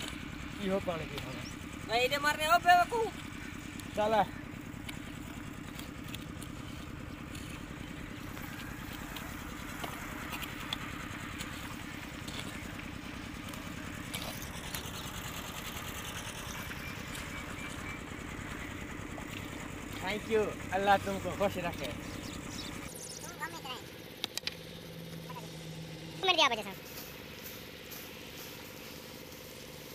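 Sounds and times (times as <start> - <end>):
low mechanical drone: 0.0 - 29.9.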